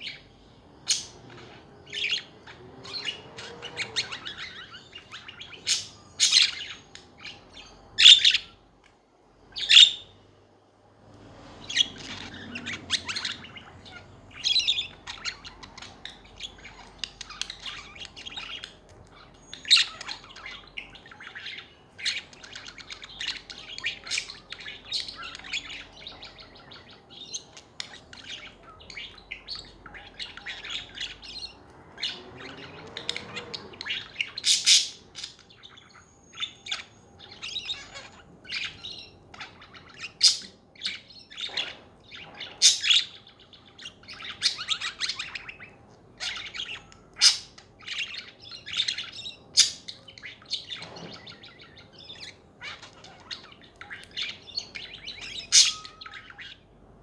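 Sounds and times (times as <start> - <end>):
budgies chirping and warbling: 0.0 - 57.0.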